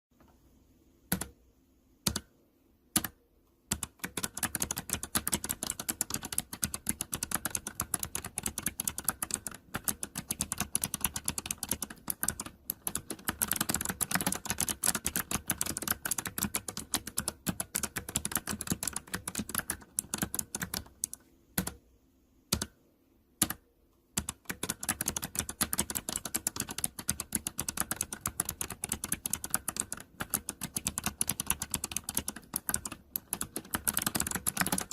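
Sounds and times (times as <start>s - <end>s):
mechanical keyboard typing: 1.1s - 1.4s, 2.0s - 2.3s, 2.9s - 21.8s, 22.5s - 22.8s, 23.4s - 23.6s, 24.2s - 34.9s.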